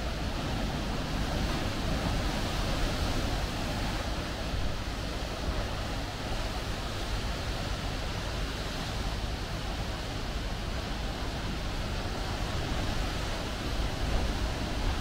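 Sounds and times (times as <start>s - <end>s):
sea surf: 0.0s - 15.0s
wind rumble on microphone: 0.0s - 15.0s.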